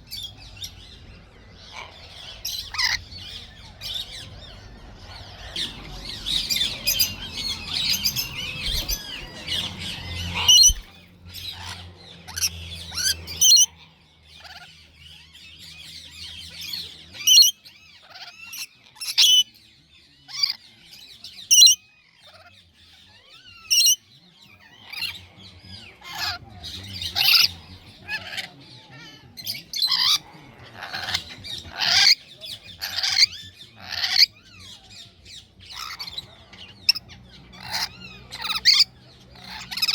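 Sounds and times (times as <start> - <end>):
lorikeets screeching and chattering: 0.0 - 39.9.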